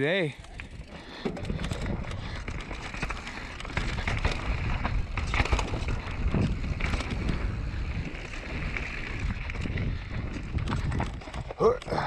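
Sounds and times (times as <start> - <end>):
bike clicks and rattles: 0.0 - 12.0
bike tyres rumbling over dirt: 0.2 - 12.0
wind buffeting microphone: 0.5 - 12.0.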